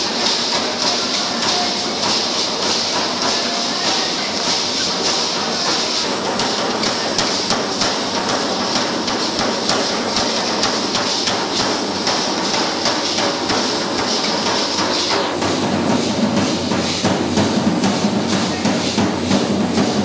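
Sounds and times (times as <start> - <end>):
rhythmic sharp clacks: 0.0 - 20.0.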